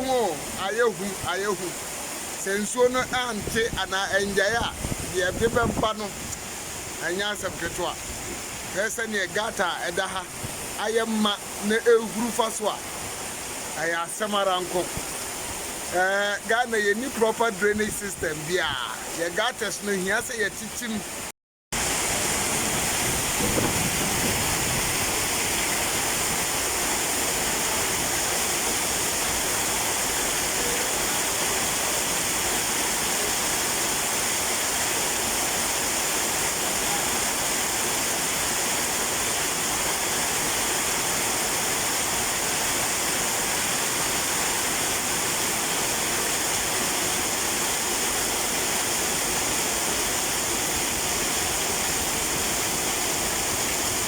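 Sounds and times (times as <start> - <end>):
heavy rain: 0.0 - 54.0
rushing stormwater: 0.0 - 54.0.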